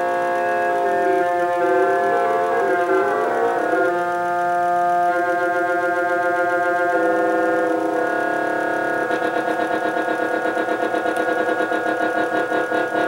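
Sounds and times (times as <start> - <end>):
electronic tone generator notes: 0.0 - 13.0.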